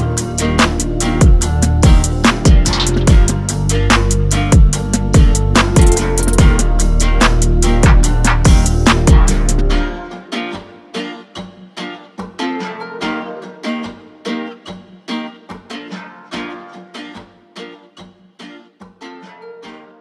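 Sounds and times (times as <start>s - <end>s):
plucked string instrument notes: 0.0s - 18.0s.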